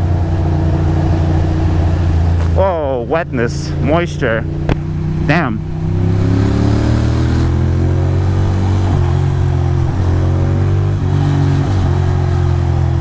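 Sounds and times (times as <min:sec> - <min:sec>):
motorcycle engine accelerating: 0:00.0 - 0:13.0
wind and road noise: 0:00.0 - 0:13.0.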